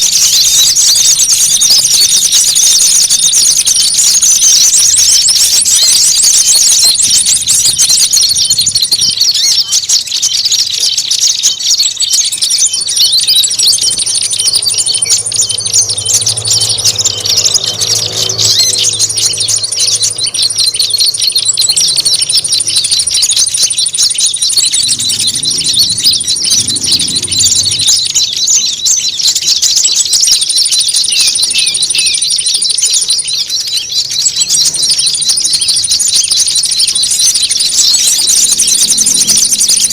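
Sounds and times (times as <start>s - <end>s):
songbirds chattering: 0.0s - 39.9s
very high bird trill: 0.0s - 39.9s.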